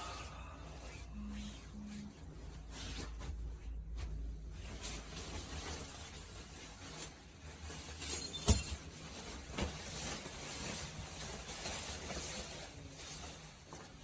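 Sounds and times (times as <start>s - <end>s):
nylon jacket rustling: 0.6s - 14.0s.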